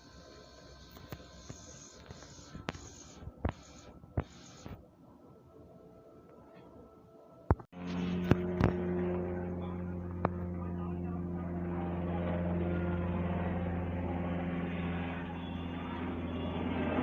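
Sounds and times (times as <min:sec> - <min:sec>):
helicopter running: 0:00.0 - 0:05.0, 0:07.5 - 0:17.0.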